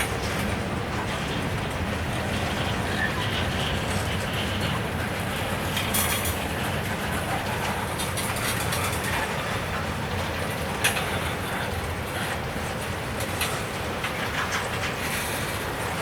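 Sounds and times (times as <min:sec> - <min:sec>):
freight train cars rolling: 0:00.0 - 0:16.0.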